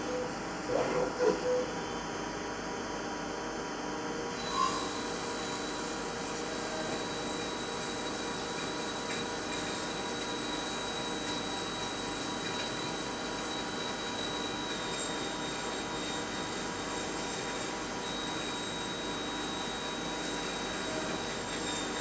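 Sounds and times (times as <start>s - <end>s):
high-pitched machine whine: 0.0s - 2.0s, 4.2s - 22.0s
drill machining hiss: 4.4s - 22.0s.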